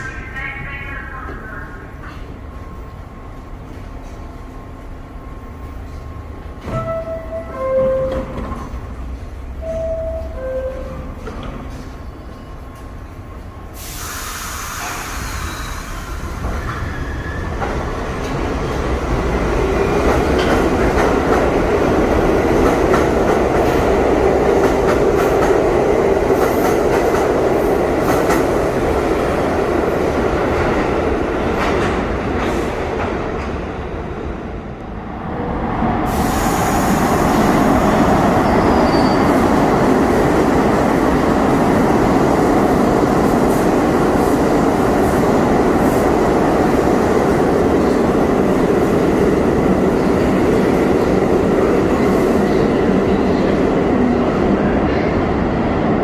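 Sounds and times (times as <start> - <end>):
second train passing: 0.0 - 56.0
subway train pulling out: 0.0 - 56.0.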